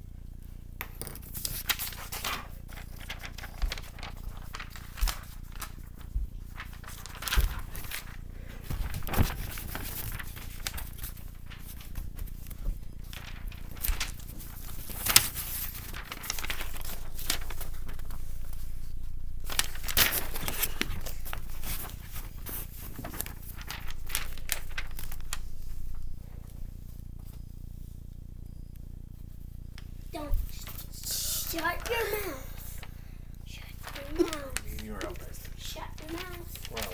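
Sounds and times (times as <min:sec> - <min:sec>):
paper crinkling: 0:01.2 - 0:27.5, 0:29.8 - 0:36.9
steady rustling: 0:01.3 - 0:28.4, 0:29.0 - 0:36.9.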